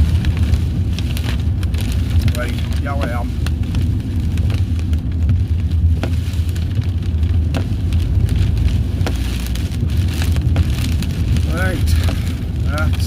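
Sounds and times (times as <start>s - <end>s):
car low rumble: 0.0s - 13.0s
raindrops tapping: 0.0s - 13.0s.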